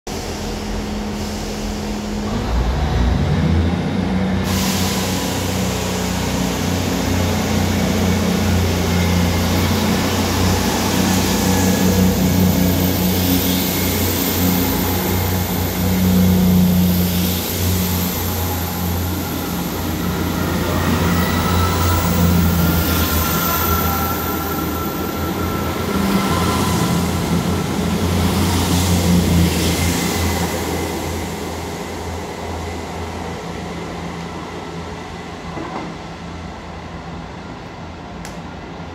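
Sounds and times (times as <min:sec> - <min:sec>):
diesel train engine drone: 0:00.1 - 0:38.9.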